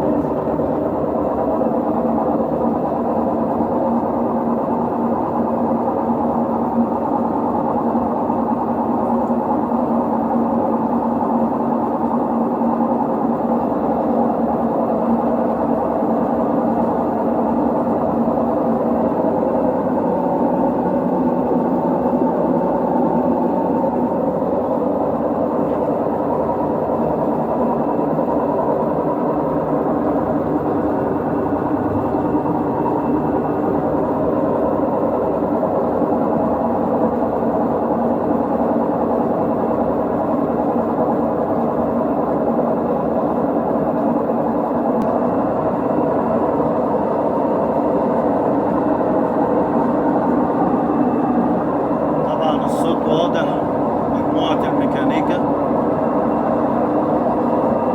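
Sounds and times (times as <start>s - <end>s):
washing machine spinning: 0.0s - 57.9s.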